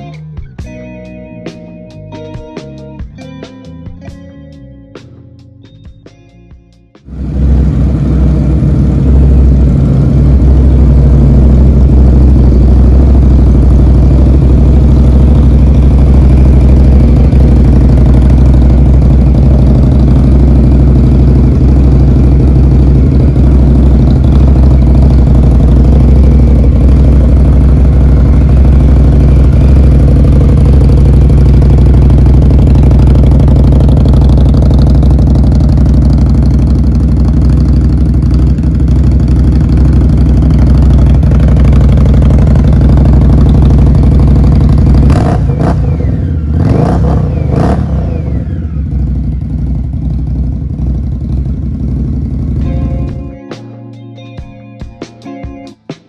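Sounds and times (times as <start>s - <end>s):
motorcycle engine idling: 0.0s - 53.8s.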